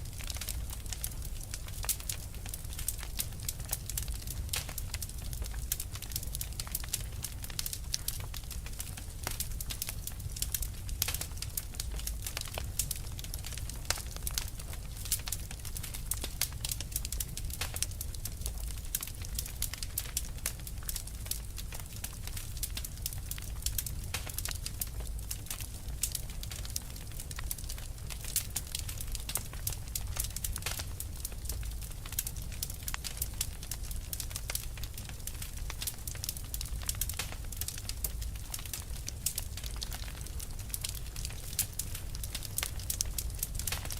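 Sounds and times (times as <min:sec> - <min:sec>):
low rumble of flame: 0:00.0 - 0:43.9
wood fire crackling and popping: 0:00.0 - 0:43.9.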